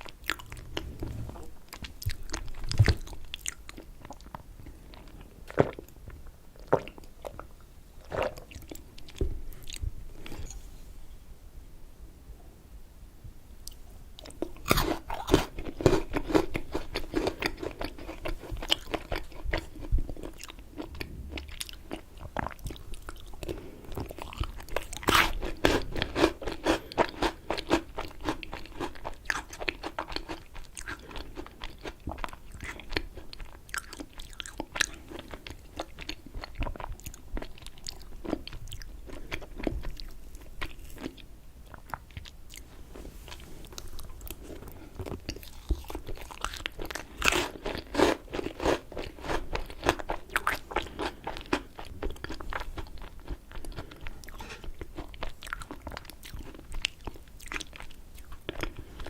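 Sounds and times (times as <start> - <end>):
biting and chewing: 0.0 - 5.9, 14.2 - 42.6, 43.3 - 59.0.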